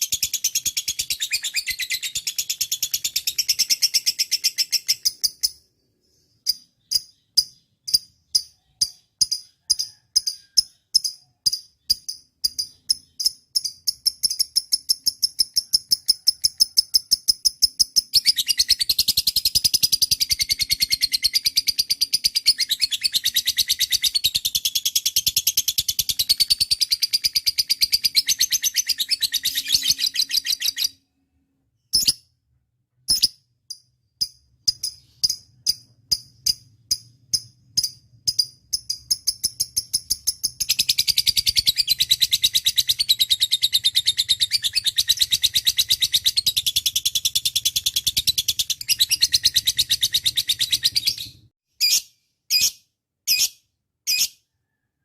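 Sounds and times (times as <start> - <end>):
lovebird chirping and trilling: 0.0 - 31.2, 31.8 - 32.3, 33.0 - 54.8.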